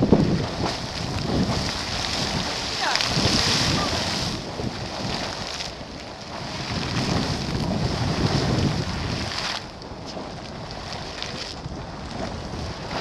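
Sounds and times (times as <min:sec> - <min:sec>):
geyser water bursting and splashing: 0:00.0 - 0:13.0
wind buffeting microphone: 0:00.0 - 0:13.0.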